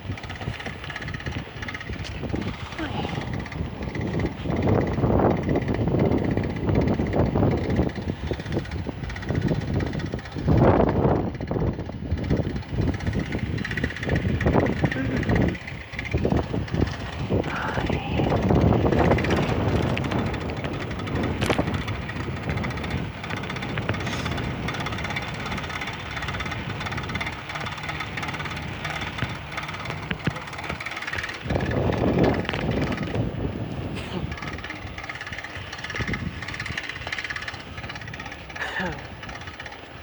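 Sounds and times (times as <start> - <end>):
bicycle rattle and hum: 0.0 - 40.0
wind buffeting microphone: 0.0 - 40.0.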